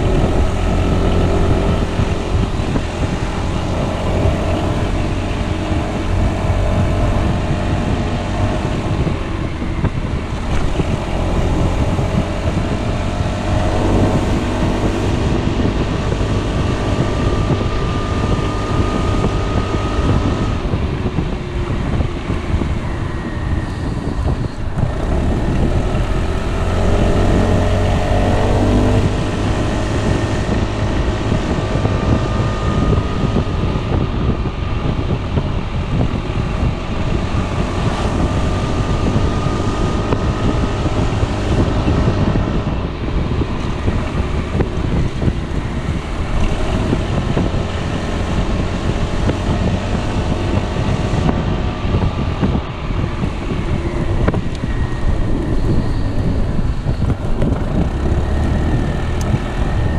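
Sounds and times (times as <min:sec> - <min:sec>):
scooter engine running: 0:00.0 - 0:59.9
wind buffeting on microphone: 0:00.0 - 0:59.9.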